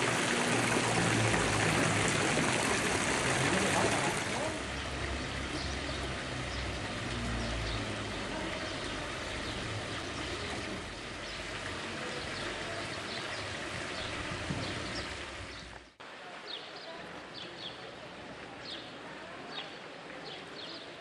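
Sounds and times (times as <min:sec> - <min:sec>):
fountain water splashing into basin: 0:00.0 - 0:21.0.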